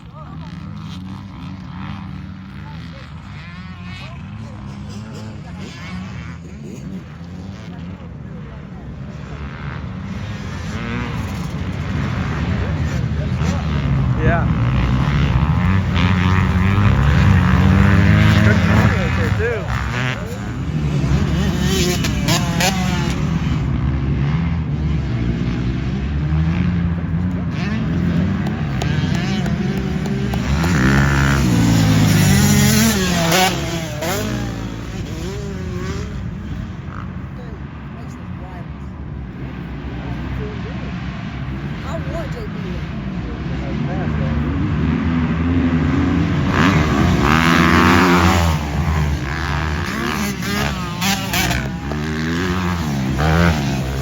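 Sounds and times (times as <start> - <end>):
dirt bike engine revving: 0.0 - 37.8, 39.4 - 54.0.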